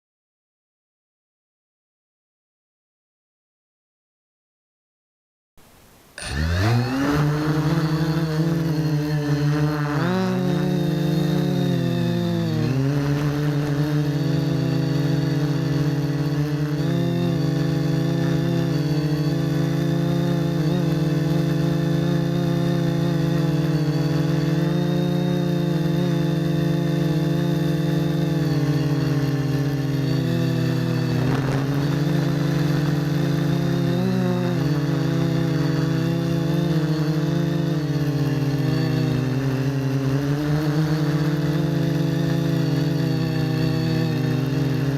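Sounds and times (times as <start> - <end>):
quadcopter propellers buzzing: 6.1 - 44.9.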